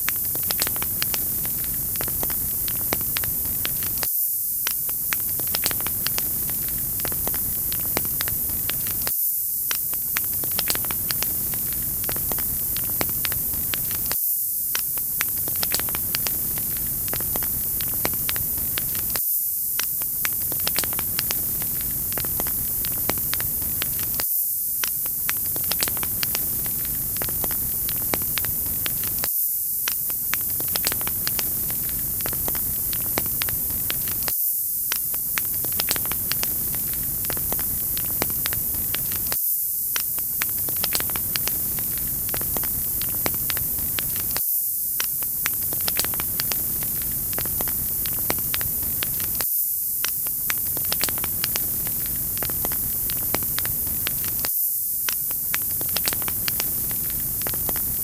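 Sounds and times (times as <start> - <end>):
wood fire crackling: 0.0 - 9.1, 9.7 - 19.2, 19.8 - 24.2, 24.8 - 29.3, 30.0 - 34.3, 35.0 - 44.4, 45.0 - 49.4, 50.0 - 58.0.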